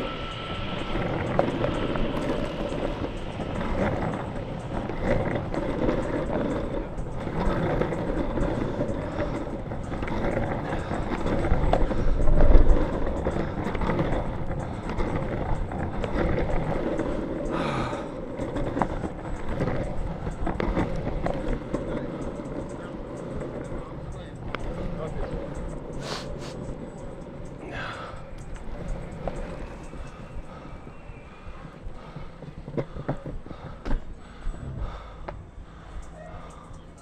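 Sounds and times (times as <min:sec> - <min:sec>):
longboard wheels rolling on pavement: 0:00.0 - 0:37.0.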